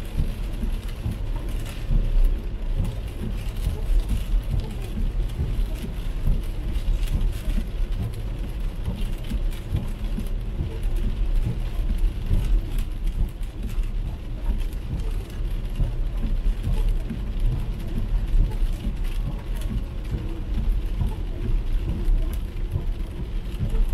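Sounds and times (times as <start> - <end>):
heavy rain on car windshield: 0.0 - 23.9
low road rumble: 0.0 - 23.9
tyre noise on wet road: 0.0 - 23.9.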